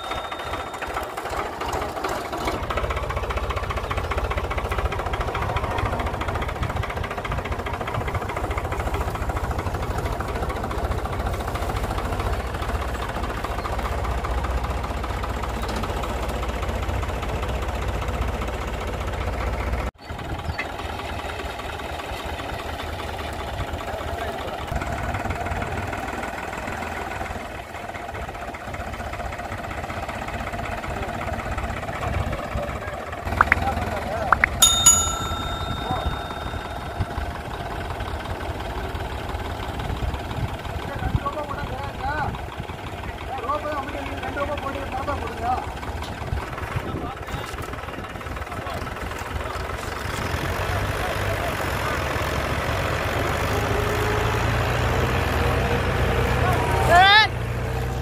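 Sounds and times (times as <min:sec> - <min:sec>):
diesel tractor engine under load: 0:00.0 - 0:58.0.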